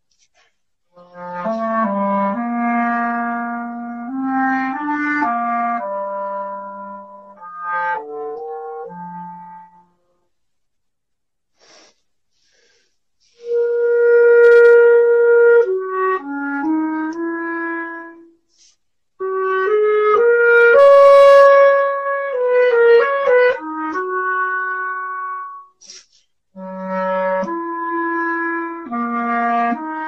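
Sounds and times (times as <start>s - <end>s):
solo clarinet melody: 0.9s - 10.3s, 13.3s - 30.0s.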